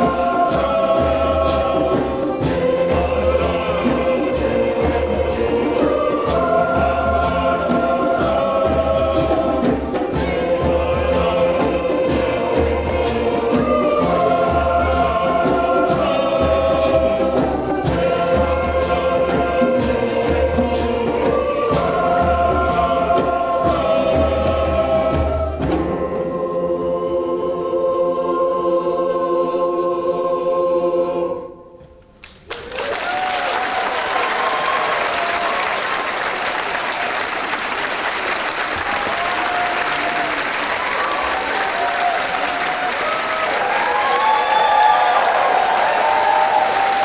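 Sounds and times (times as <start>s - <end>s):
choir singing in harmony: 0.0s - 32.1s, 33.6s - 47.0s.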